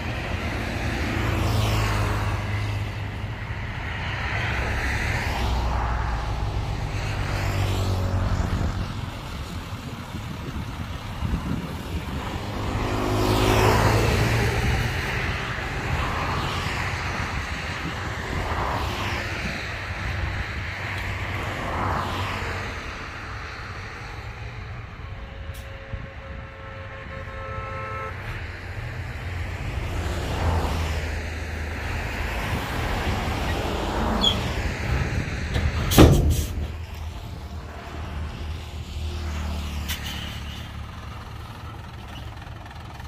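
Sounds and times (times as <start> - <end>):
diesel machinery rumbling: 0.0 - 43.0
vehicles passing by: 0.0 - 43.0.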